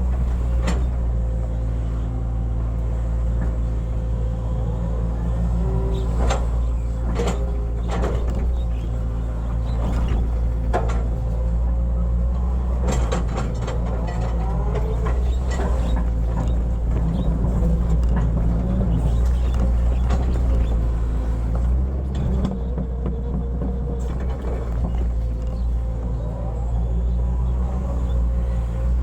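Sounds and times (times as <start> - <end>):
excavator diesel engine under load: 0.0 - 29.0.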